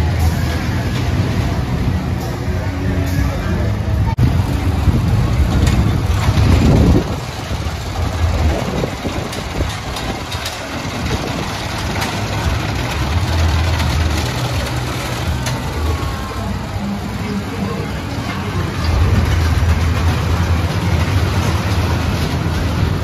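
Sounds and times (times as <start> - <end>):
roller coaster rumble: 0.0 - 23.0
light clacks of cars: 4.4 - 23.0.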